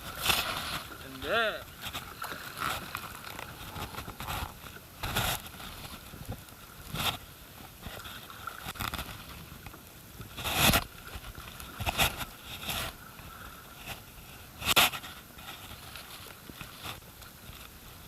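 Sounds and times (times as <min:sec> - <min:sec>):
paddle strokes splashing: 0:00.0 - 0:18.0.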